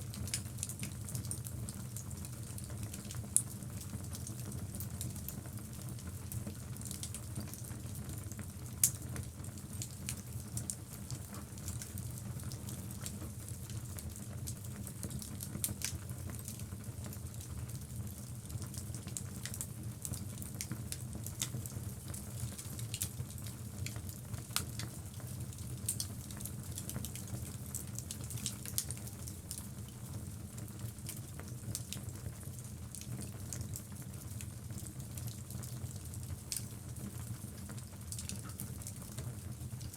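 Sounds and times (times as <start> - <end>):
fire crackles and pops: 0.1 - 39.9.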